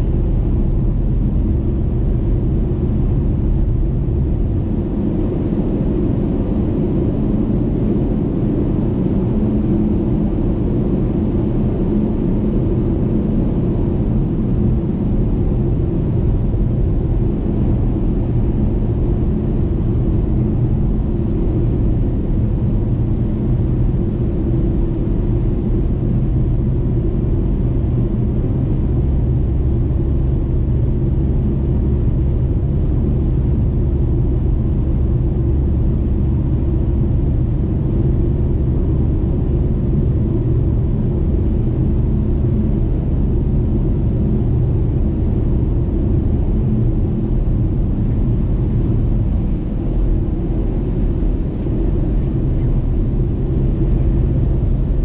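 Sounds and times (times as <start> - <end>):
car tyre and engine rumble: 9.3 - 55.0.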